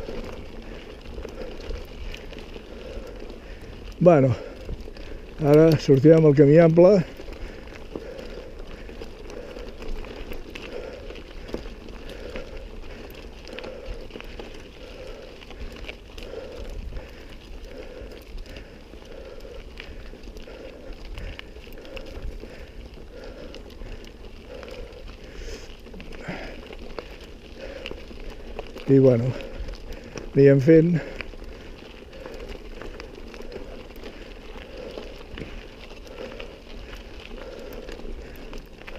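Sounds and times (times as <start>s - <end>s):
steady low rumble: 0.0s - 5.6s, 7.0s - 30.4s, 31.0s - 38.9s
bike clicks and rattles: 0.0s - 38.9s
bike tyres crunching on gravel: 0.0s - 38.9s.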